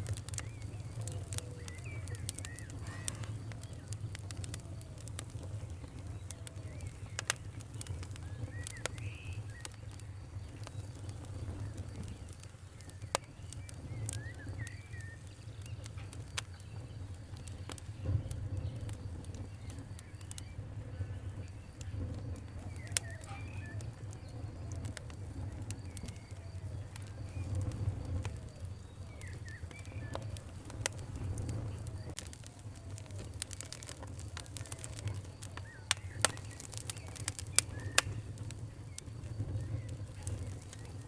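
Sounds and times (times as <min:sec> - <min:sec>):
birds chirping: 0:00.0 - 0:41.0
wood fire crackling and popping: 0:00.0 - 0:41.0.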